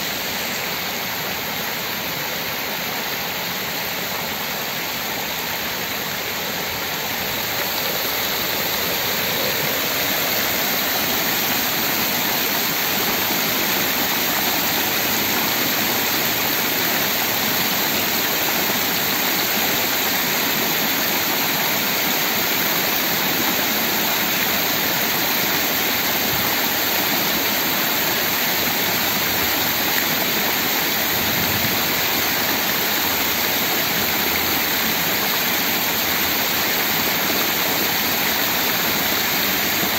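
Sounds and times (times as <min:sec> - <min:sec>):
fountain jets splashing into pool: 0:03.8 - 0:39.9.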